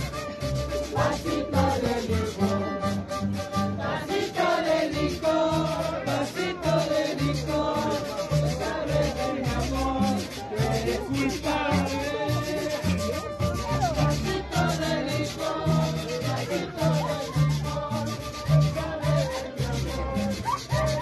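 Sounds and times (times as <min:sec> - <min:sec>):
harp plucked bass notes: 0:00.0 - 0:04.0, 0:04.9 - 0:21.0
violin bowed melody: 0:00.0 - 0:21.0.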